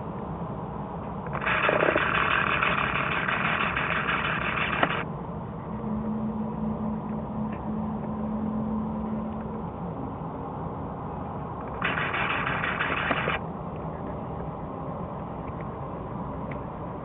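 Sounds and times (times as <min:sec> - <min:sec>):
jet engines rumbling: 0:00.0 - 0:17.0
steady low hum: 0:00.0 - 0:17.0.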